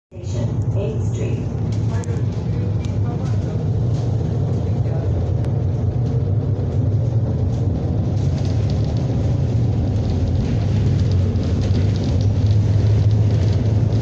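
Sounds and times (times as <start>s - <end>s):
people mover rumbling: 0.1s - 14.0s.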